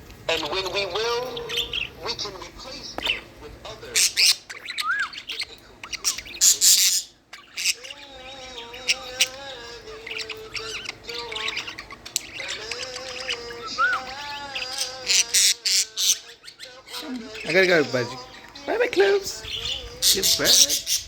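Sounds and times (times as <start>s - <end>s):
budgie squawking: 0.3s - 21.0s.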